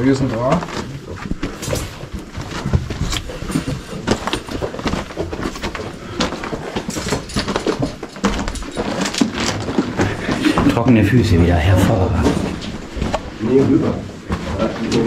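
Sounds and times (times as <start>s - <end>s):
footsteps crunching on rock rubble: 0.0s - 15.0s.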